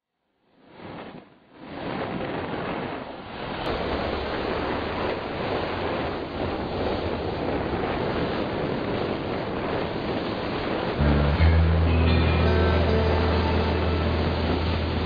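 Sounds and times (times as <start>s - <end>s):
wind buffeting microphone: 0.8s - 15.0s
sea waves: 1.9s - 15.0s.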